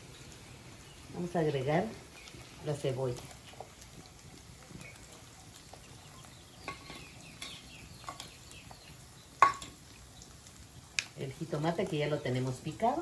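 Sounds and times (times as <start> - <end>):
faint frying: 0.0 - 13.0.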